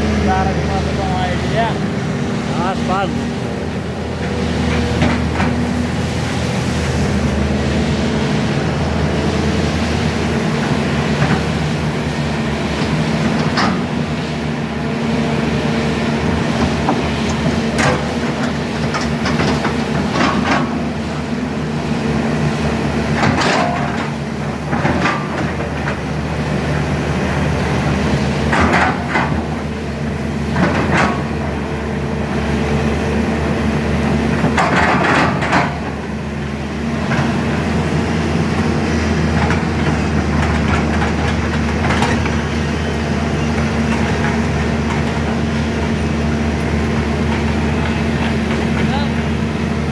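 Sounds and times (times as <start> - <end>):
excavator bucket scraping and clattering: 0.0 - 49.9
excavator diesel engine humming: 0.0 - 49.9.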